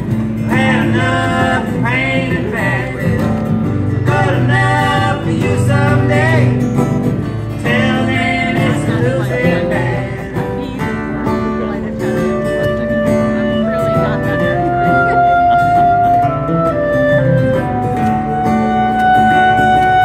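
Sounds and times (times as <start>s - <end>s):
acoustic guitar: 0.0s - 20.0s
voices singing: 0.2s - 20.0s.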